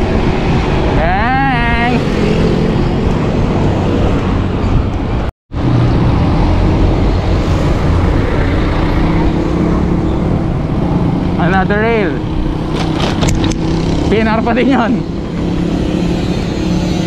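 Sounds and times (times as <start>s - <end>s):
passing vehicle engines: 0.0s - 17.0s
road traffic roar: 0.0s - 17.0s
wind rush: 0.0s - 17.0s.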